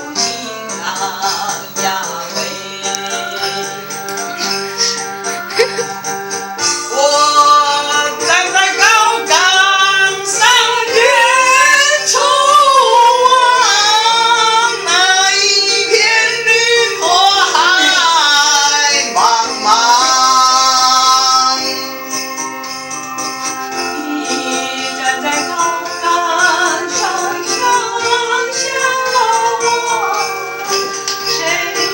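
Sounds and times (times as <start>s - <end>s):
woman singing: 0.0s - 3.9s, 6.9s - 21.7s, 23.8s - 31.9s
instrumental backing music: 0.0s - 31.9s
tambourine jingling: 0.0s - 31.9s.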